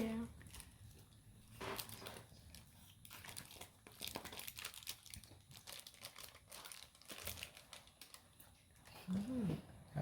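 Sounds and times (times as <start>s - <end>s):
food packaging crinkling: 0.0s - 9.0s.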